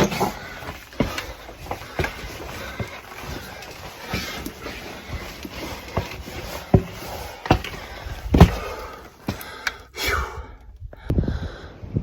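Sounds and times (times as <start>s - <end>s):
handling noise rustle: 0.0s - 9.7s
footsteps on a trail: 0.0s - 9.8s.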